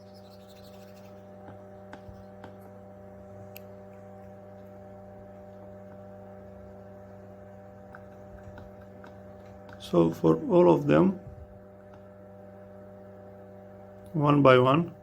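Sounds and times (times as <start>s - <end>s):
small extractor fan humming: 0.0s - 15.0s.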